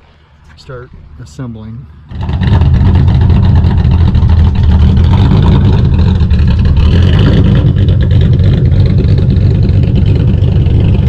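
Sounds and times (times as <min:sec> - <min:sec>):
vehicle engine running: 0:02.0 - 0:11.0.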